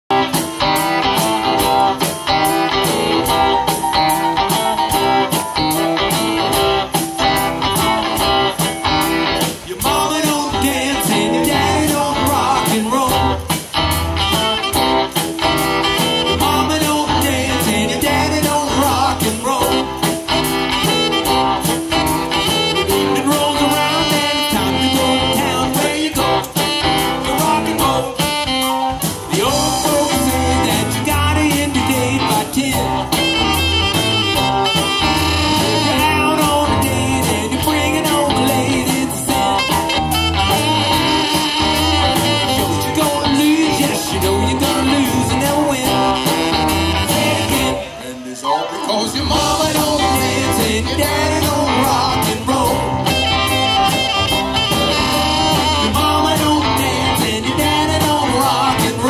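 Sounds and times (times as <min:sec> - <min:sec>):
live rock and roll band: 0:00.1 - 0:59.0
man singing: 0:09.4 - 0:13.6, 0:15.9 - 0:59.0.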